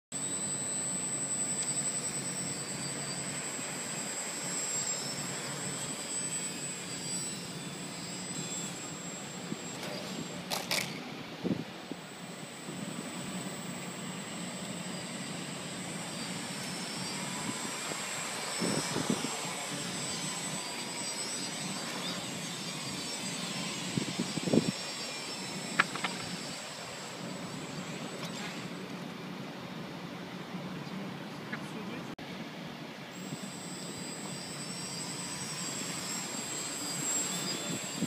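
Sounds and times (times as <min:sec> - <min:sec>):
quadcopter propellers buzzing: 0:00.2 - 0:32.2, 0:33.0 - 0:38.0.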